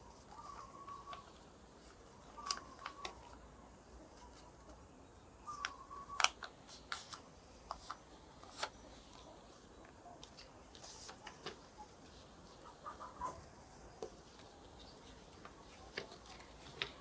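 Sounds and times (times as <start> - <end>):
paper crackling as it is folded: 0.1 - 3.4, 5.6 - 17.0.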